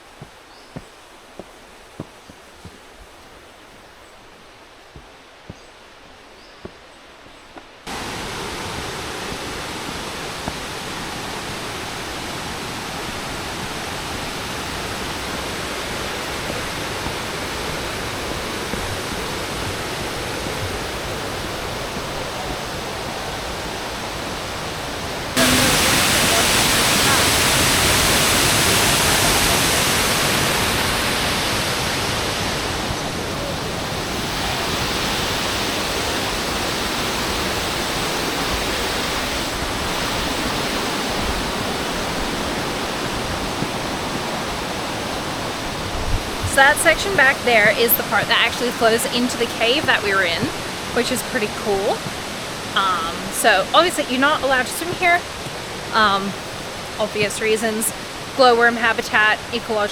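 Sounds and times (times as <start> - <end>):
waterfall rushing: 7.8 - 59.9.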